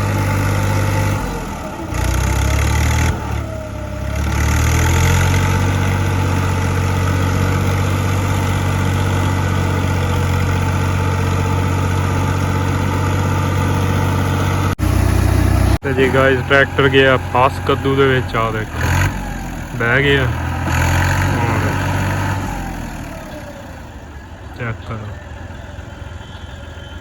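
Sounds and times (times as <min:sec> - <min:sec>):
vehicle engine droning: 0:00.0 - 0:27.0.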